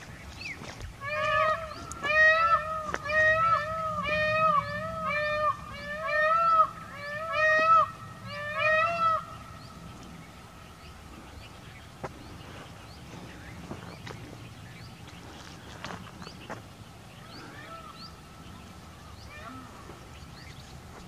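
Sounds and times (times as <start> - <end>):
peacock calling: 0.0 - 21.0.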